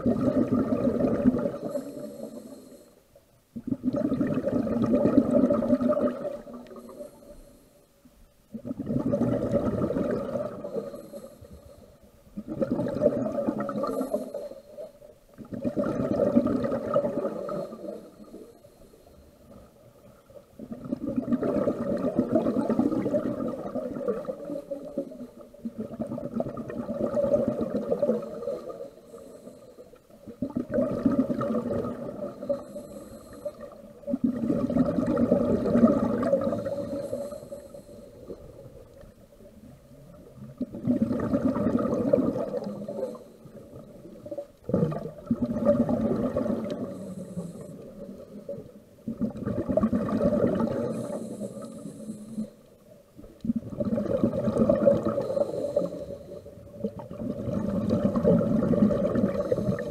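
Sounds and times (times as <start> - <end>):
diver exhaling bubbles underwater: 0.0 - 2.4, 3.6 - 7.0, 8.5 - 11.2, 12.4 - 14.6, 15.4 - 18.4, 20.6 - 29.0, 30.3 - 38.9, 39.6 - 52.4, 53.4 - 59.9
faint hiss: 0.0 - 15.7, 16.6 - 21.0, 26.7 - 40.8, 41.8 - 59.9.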